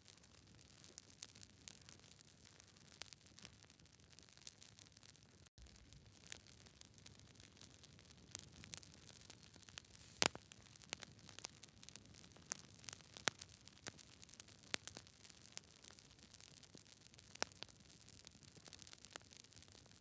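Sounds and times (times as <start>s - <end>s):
campfire crackling and popping: 0.1s - 20.0s.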